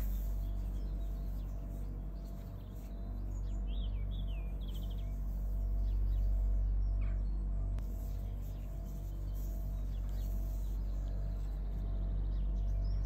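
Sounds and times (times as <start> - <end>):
deep bass drone music: 0.0 - 13.0.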